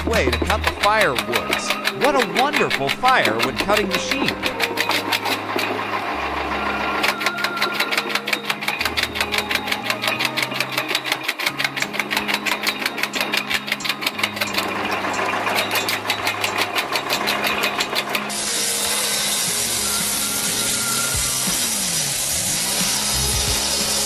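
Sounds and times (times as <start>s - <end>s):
firewood cutting machine clattering: 0.0s - 24.0s.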